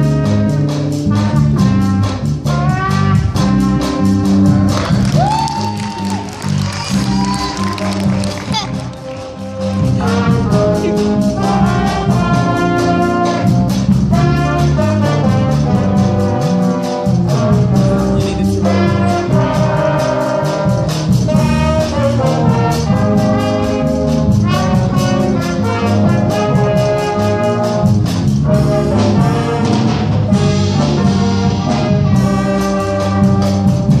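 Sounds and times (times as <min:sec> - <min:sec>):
brass band accompaniment: 0:00.0 - 0:34.0
trumpet solo melody: 0:00.0 - 0:34.0.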